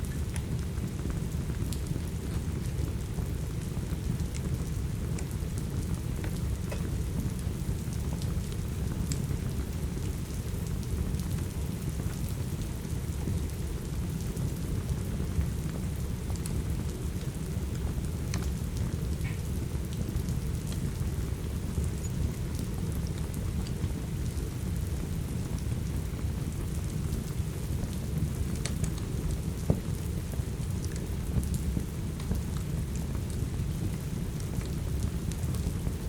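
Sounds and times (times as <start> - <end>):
steady rain: 0.0 - 36.0
wood fire crackling: 0.0 - 36.0.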